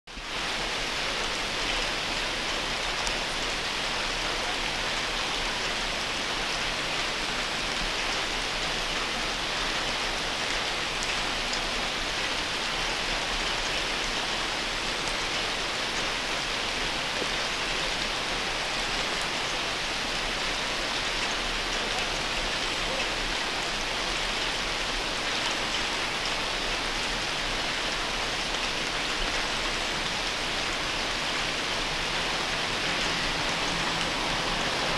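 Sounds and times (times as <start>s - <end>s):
rain falling on plants: 0.1s - 34.9s.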